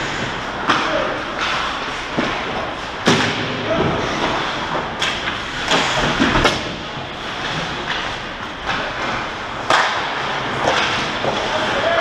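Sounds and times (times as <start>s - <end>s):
skates scraping ice: 0.0s - 12.0s
sticks and puck clacking: 0.0s - 12.0s.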